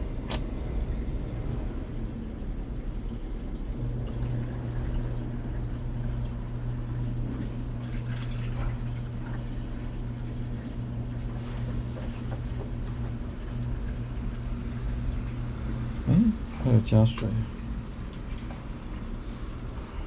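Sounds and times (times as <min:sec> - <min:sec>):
water pouring into tub: 0:00.0 - 0:16.8
washing machine humming: 0:00.0 - 0:20.0.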